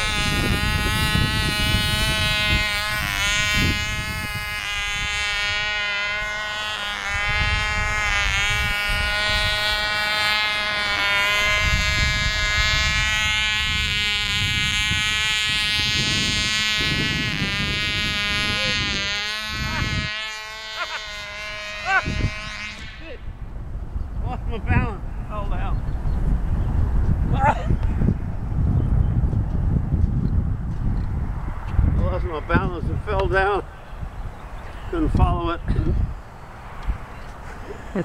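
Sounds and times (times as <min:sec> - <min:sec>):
model airplane engine buzzing: 0:00.0 - 0:38.0
wind buffeting microphone: 0:00.0 - 0:38.0.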